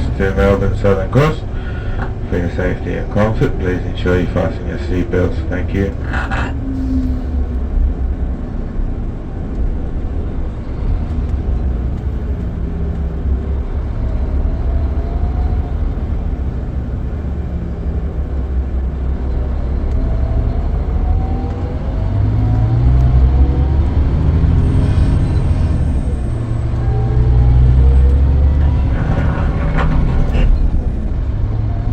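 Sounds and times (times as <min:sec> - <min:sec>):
faint climbing engine tone: 0:00.0 - 0:17.2, 0:18.0 - 0:31.9
coach engine and road rumble: 0:00.0 - 0:31.9.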